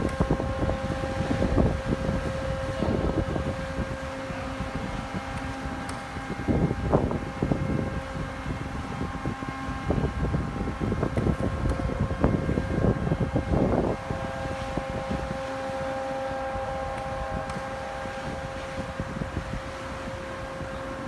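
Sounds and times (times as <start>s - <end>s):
motor whine: 0.0s - 21.0s
wind rumbling on microphone: 0.0s - 21.0s.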